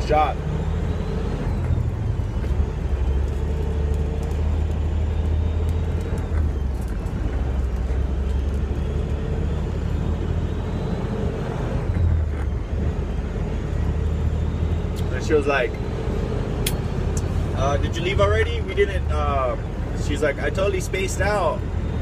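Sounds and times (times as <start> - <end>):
diesel truck engine droning: 0.0 - 22.0.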